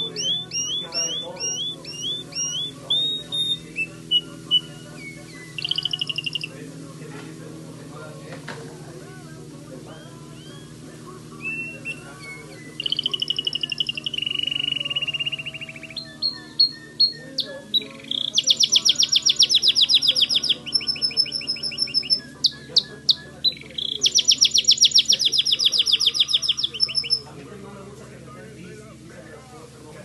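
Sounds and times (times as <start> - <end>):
canary trilling: 0.0 - 6.7, 8.9 - 27.4.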